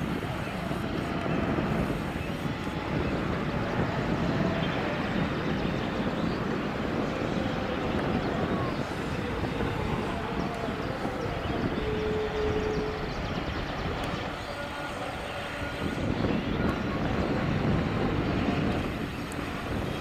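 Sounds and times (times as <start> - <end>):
even outdoor rumble: 0.0 - 20.0.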